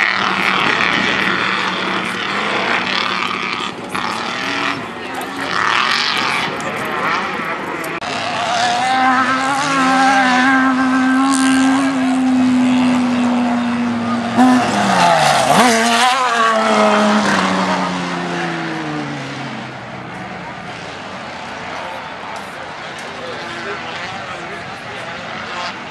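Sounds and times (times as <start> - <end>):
race truck engines revving high: 0.0 - 25.9.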